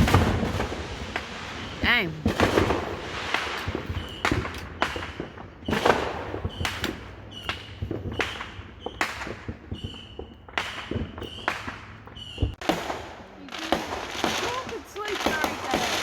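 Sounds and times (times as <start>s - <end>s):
firecrackers banging: 0.0s - 16.0s.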